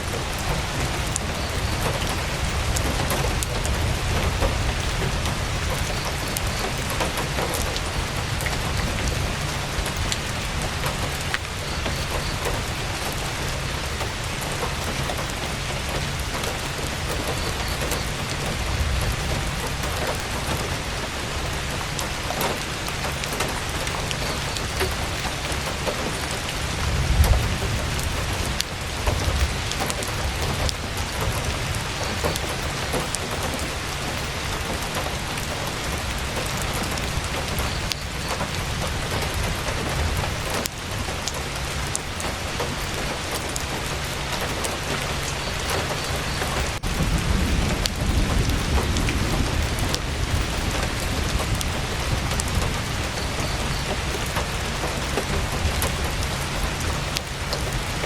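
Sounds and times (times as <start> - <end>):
heavy rain on tent canvas: 0.0 - 58.0.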